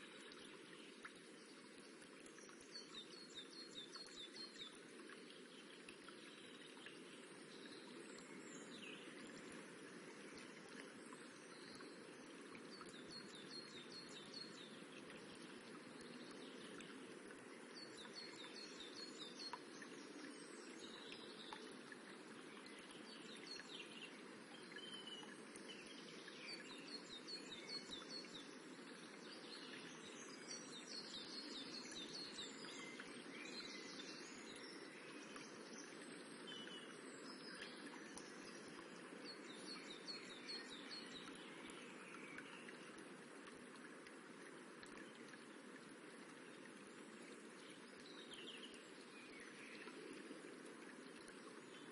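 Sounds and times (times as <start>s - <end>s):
stream rippling: 0.0s - 51.9s.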